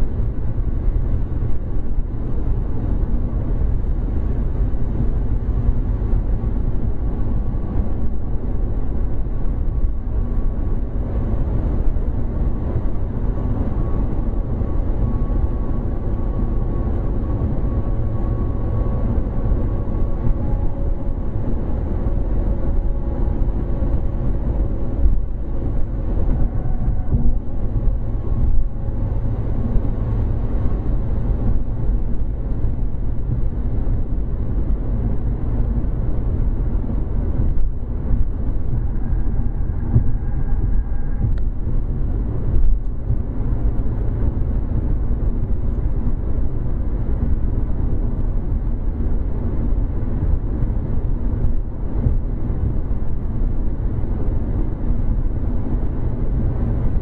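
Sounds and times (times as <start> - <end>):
car cabin road noise: 0.0 - 57.0.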